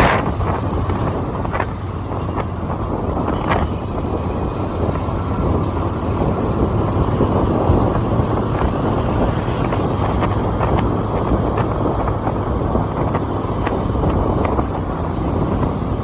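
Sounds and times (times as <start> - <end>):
motorcycle engine and tyre noise: 0.0 - 16.0
wind rush over microphone: 0.0 - 16.0.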